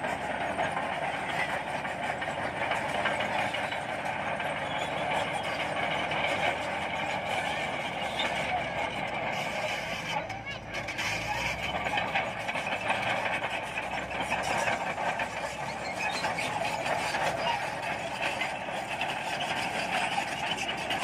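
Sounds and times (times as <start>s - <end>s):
bulldozer diesel engine running: 0.0s - 21.0s
steel tracks moving: 0.0s - 21.0s.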